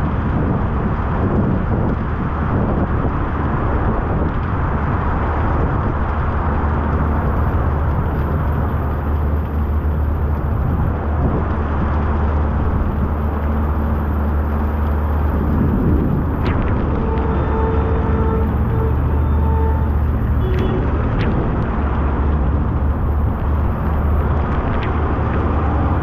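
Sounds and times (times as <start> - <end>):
heavy rain on street and awning: 0.0 - 26.0
traffic rumble: 0.0 - 26.0.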